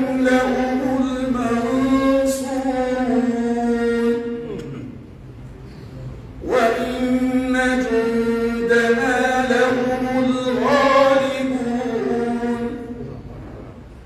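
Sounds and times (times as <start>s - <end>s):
man chanting melodically: 0.0s - 4.8s, 6.4s - 13.3s.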